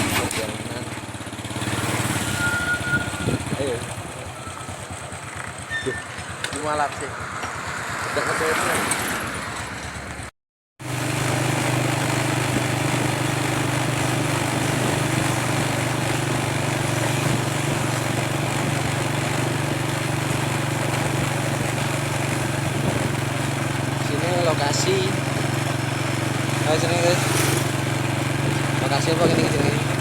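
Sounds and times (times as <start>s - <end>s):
vehicle engine running: 0.0s - 8.5s, 9.5s - 30.0s
road and wind noise: 0.0s - 30.0s.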